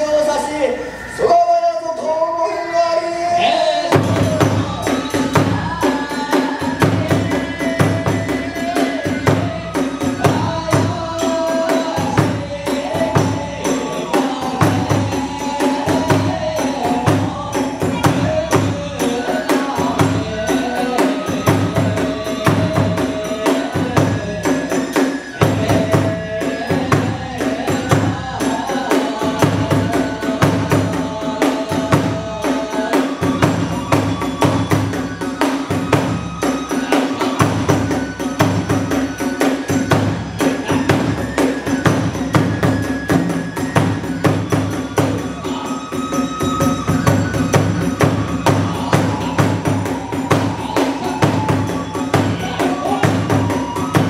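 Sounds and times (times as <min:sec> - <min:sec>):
bamboo flute melody: 0:00.0 - 0:54.0
drum beats: 0:03.4 - 0:54.0.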